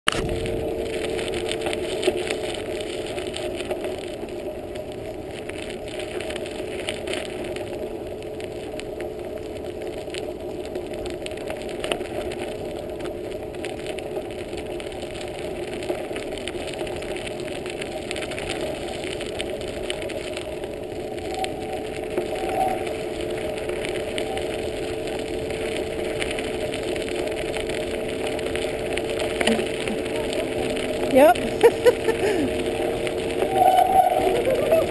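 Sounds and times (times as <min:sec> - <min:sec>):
bicycle tyre noise: 0:00.1 - 0:34.9
steady hum: 0:00.1 - 0:34.9.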